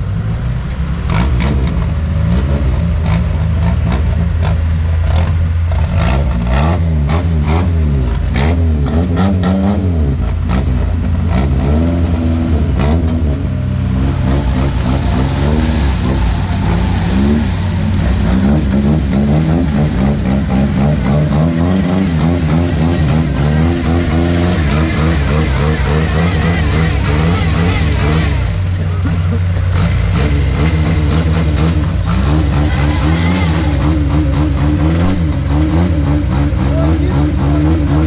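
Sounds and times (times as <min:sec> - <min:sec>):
vehicle engine revving: 0:00.0 - 0:38.0.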